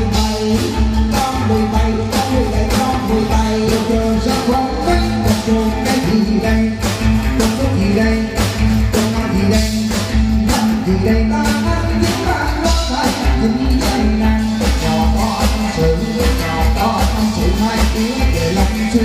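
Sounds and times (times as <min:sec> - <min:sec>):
bass line: 0:00.0 - 0:19.0
person singing: 0:00.0 - 0:19.0
steady drum beat: 0:00.0 - 0:19.0.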